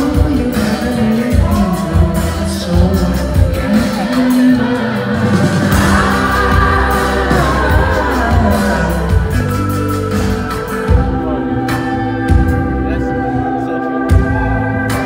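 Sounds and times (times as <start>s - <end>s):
drums: 0.0s - 15.0s
electric bass: 0.0s - 15.0s
electric guitar: 0.0s - 15.0s
person singing lead vocal: 0.0s - 15.0s.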